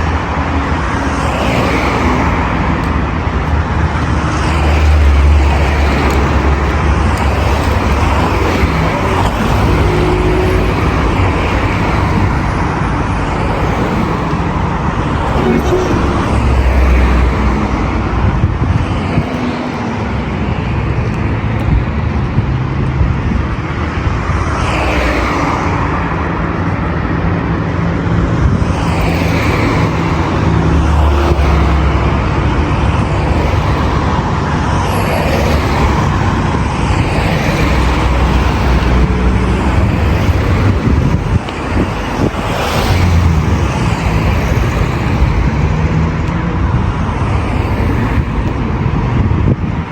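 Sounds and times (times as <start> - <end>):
road traffic: 0.0 - 49.9
vehicles passing close by: 0.0 - 49.9.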